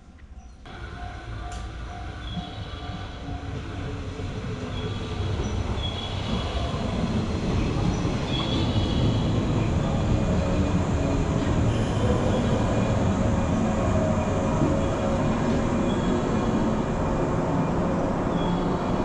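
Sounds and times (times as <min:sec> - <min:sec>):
train wheels and motors rumbling: 0:00.7 - 0:19.0.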